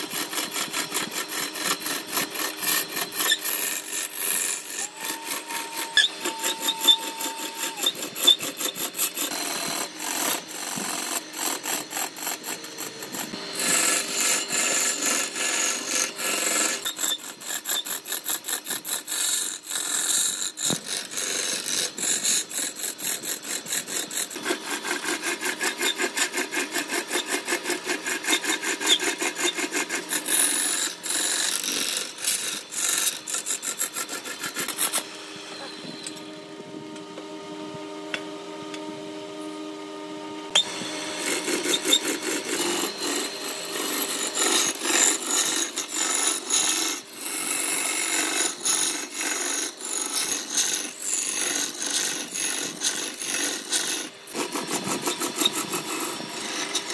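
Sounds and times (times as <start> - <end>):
lathe tool scraping wood: 0.0 - 56.9.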